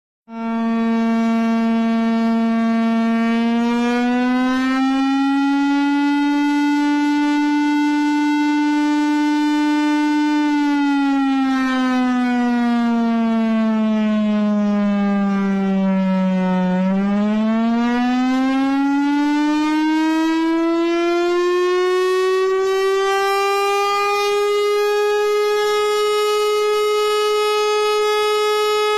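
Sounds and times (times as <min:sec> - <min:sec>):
siren wailing: 0:00.3 - 0:28.9.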